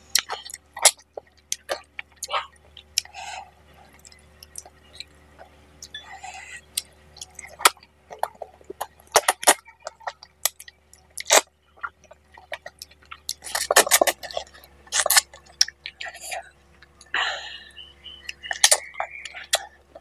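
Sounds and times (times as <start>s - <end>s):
faint steady hum: 0.0s - 20.0s
wet chewing and lip smacks: 0.1s - 17.2s, 18.1s - 20.0s.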